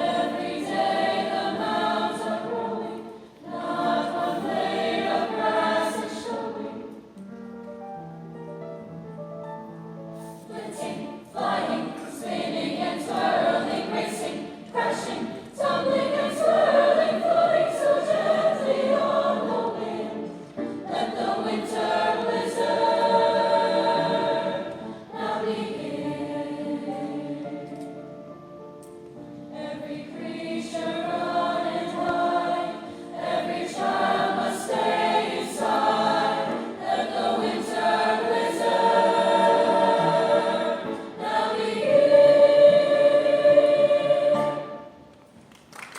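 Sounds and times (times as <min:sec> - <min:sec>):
chorus singing in parts: 0:00.0 - 0:07.1, 0:10.4 - 0:27.7, 0:29.5 - 0:45.0.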